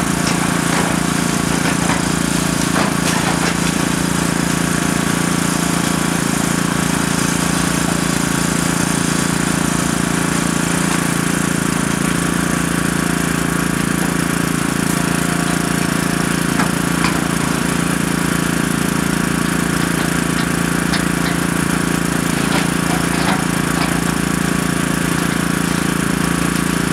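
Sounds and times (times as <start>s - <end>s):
heavy diesel engines running: 0.0s - 26.9s.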